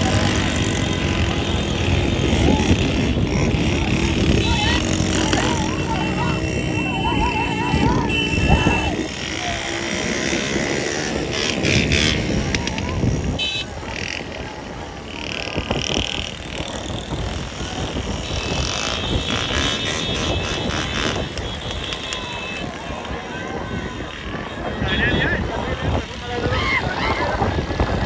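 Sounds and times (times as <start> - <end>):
motorcycles riding in a pack: 0.0 - 28.0.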